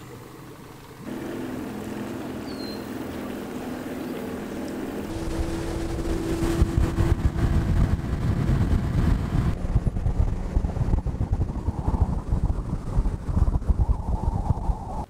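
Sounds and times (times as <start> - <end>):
water and wind rumble: 0.0 - 15.0
outboard motor running: 1.0 - 14.0.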